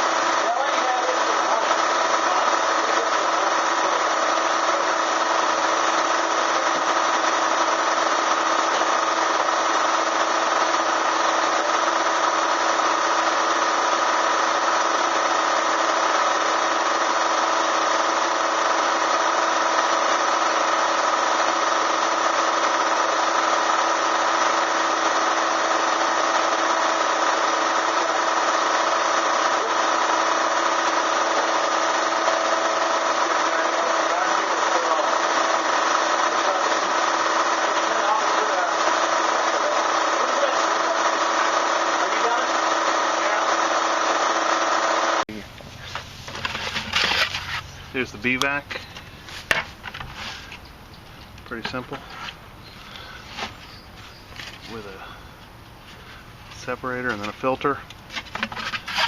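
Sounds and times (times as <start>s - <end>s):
vacuum motor whine: 0.0s - 48.2s.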